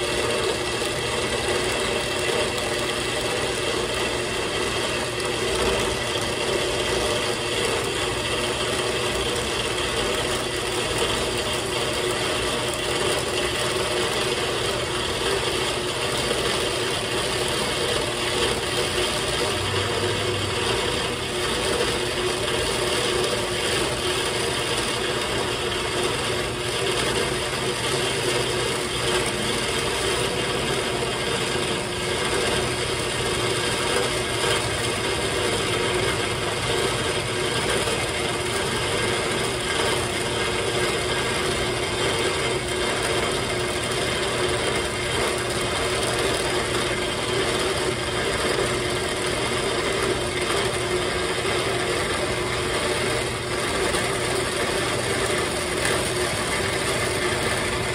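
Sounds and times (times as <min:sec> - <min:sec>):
metal band saw cutting: 0:00.0 - 0:57.9.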